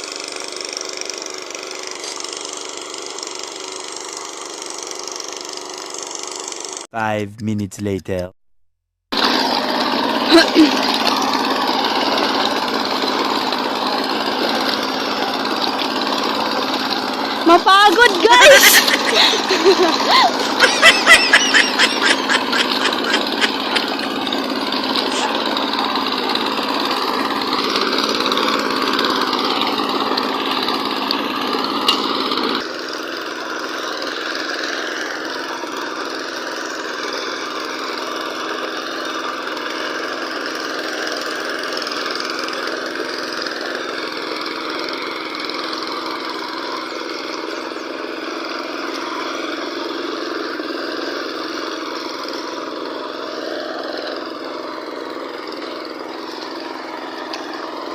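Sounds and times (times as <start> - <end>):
tractor engine running: 0.0 - 6.8, 9.2 - 57.9.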